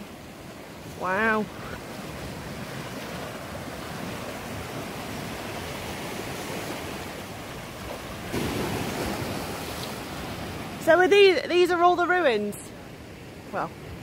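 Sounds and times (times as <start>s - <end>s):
sea surf washing over rocks: 0.0s - 14.0s.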